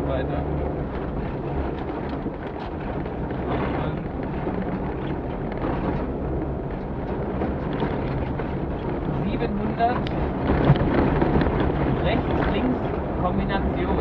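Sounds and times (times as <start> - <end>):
knocks and rattles: 0.0 - 14.0
rally car engine under load: 0.0 - 14.0.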